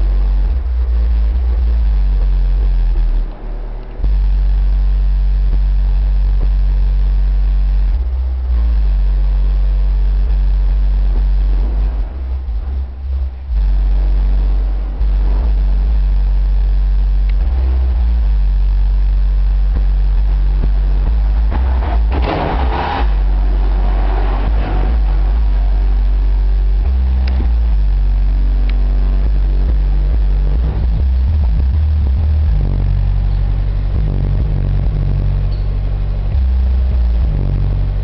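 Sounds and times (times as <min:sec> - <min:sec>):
deep bass notes from subwoofers: 0:00.0 - 0:38.0
noisy burst: 0:00.0 - 0:38.0.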